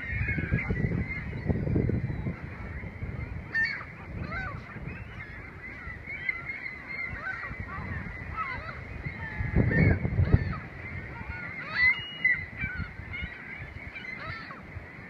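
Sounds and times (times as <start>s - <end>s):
flock of gulls calling: 0.0s - 15.0s.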